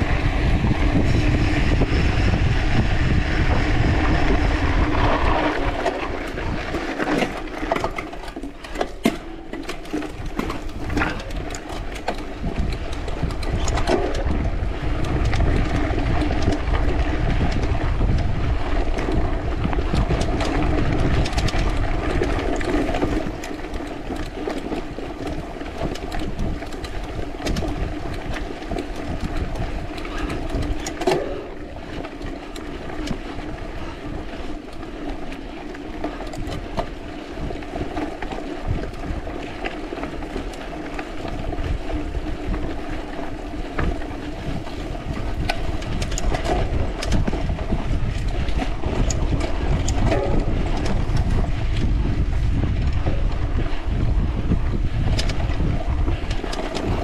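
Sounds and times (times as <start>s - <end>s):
wind rushing over microphone: 0.0s - 9.2s, 9.8s - 57.0s
bike rolling noise: 0.0s - 57.0s
small rattles and clicks: 0.0s - 57.0s.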